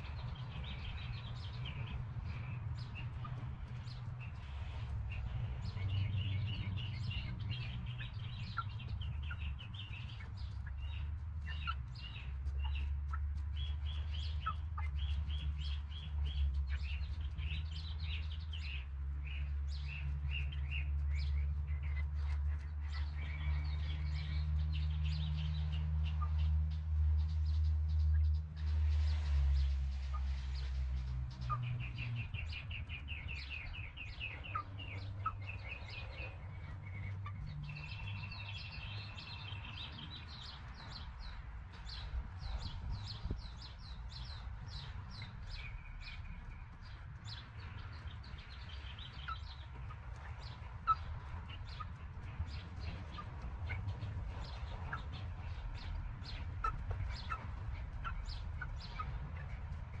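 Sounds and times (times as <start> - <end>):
chickens: 0.0 - 26.8, 27.5 - 60.0
small birds chirping: 0.0 - 60.0
steady low rumble: 0.0 - 60.0.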